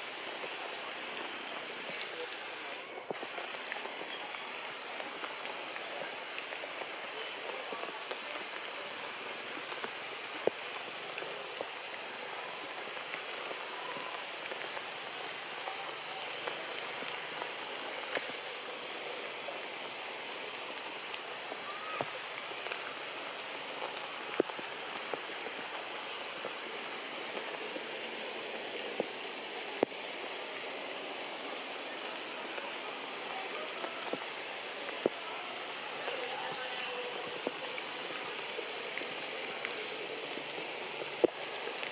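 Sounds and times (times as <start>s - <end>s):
rain falling on foliage: 0.0s - 41.9s
water drips: 0.0s - 41.9s.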